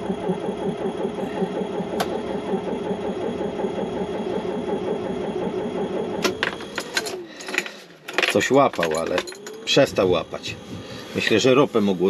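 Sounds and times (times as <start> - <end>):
diesel engine cranking: 0.0 - 12.0.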